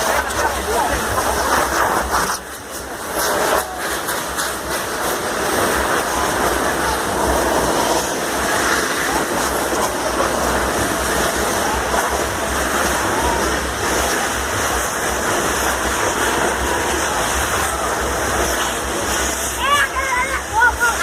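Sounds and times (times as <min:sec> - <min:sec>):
crowd voices: 0:00.0 - 0:21.0
loud rushing din: 0:00.0 - 0:21.0.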